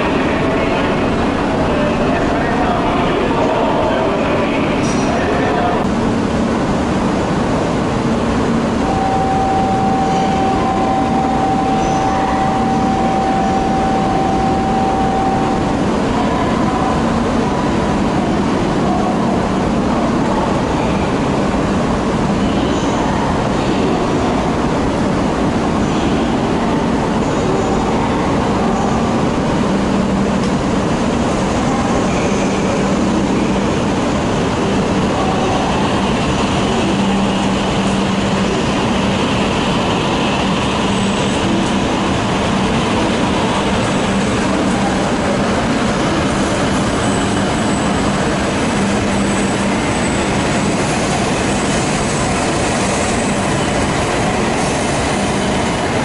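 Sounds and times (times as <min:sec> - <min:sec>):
train hum and rolling rumble: 0:00.0 - 0:56.0.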